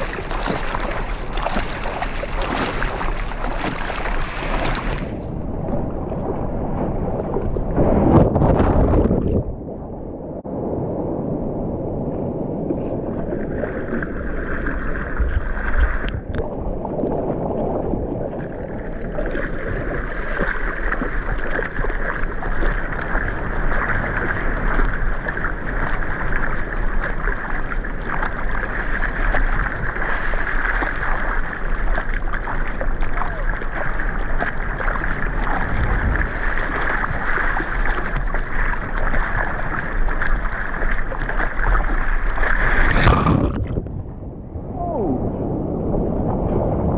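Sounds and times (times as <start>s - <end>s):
water splashing from paddling: 0.0s - 9.6s, 13.2s - 44.0s.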